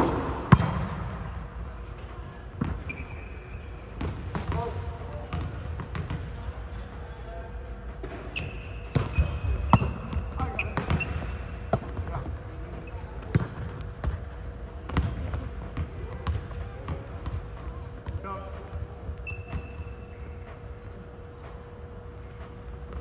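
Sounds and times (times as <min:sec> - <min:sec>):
volleyballs bouncing on gym floor: 0:00.0 - 0:06.6, 0:08.0 - 0:23.0.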